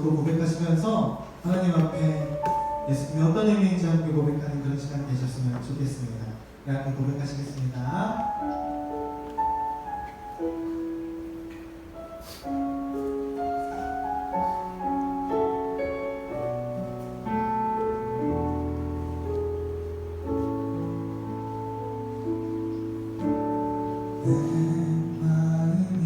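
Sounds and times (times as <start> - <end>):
piano keyboard chords and melody: 0.0 - 26.0.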